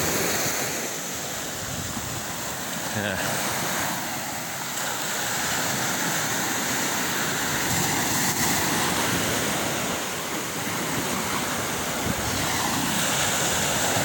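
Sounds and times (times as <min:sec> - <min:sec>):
small waves breaking on sand: 0:00.0 - 0:14.0.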